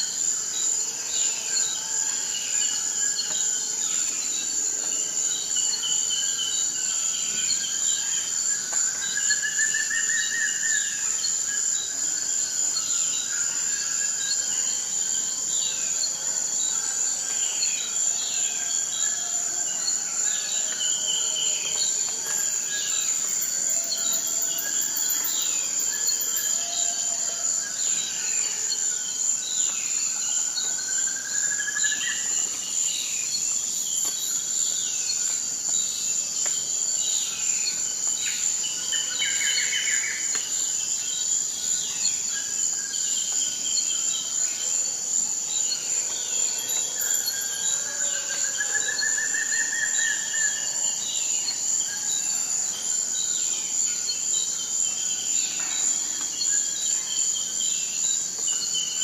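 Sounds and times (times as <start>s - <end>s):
high-pitched insect trill: 0.0s - 59.0s.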